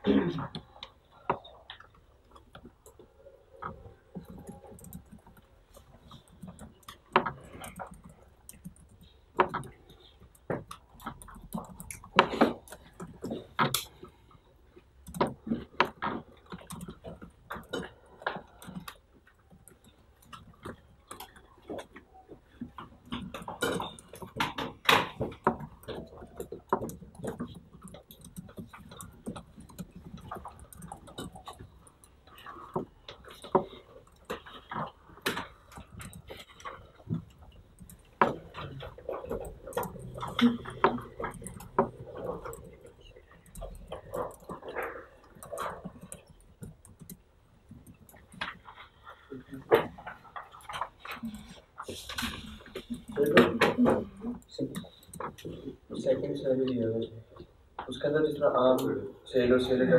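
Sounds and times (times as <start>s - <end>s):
typing on laptop keyboard: 0.5s - 58.9s.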